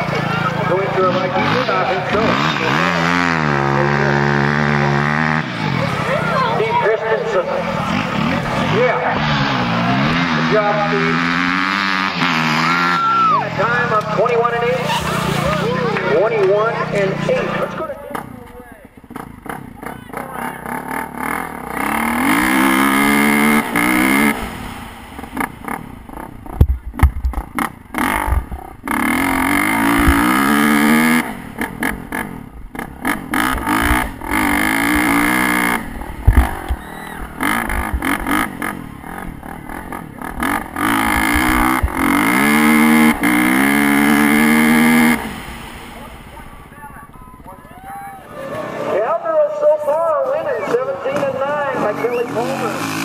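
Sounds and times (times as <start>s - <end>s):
dirt bike engine revving: 0.0s - 49.2s, 50.0s - 53.0s.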